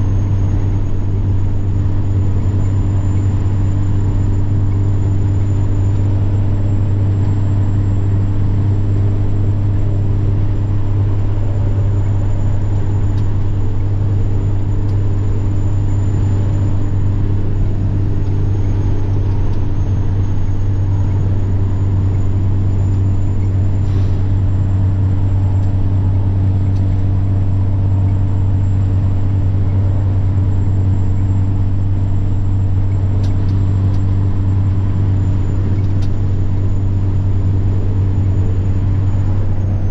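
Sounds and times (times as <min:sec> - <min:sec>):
diesel truck engine droning: 0:00.0 - 0:39.9
high turbo whine: 0:00.0 - 0:39.9.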